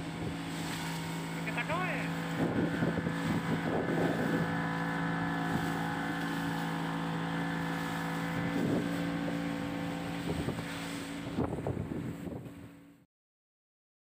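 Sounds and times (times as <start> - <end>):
outboard motor humming: 0.0 - 13.0
water rushing along hull: 0.0 - 13.0.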